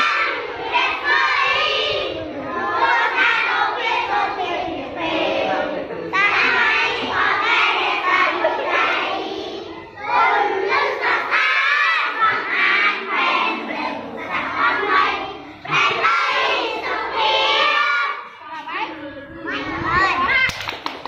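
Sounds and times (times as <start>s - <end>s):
children chanting in unison: 0.0s - 18.4s.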